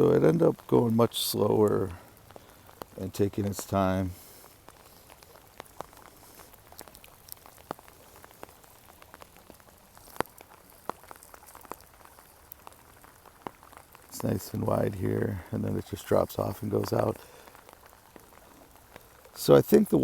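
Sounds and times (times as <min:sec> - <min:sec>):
faint steady rain hiss: 0:00.0 - 0:20.0
raindrop ticks: 0:00.0 - 0:20.0.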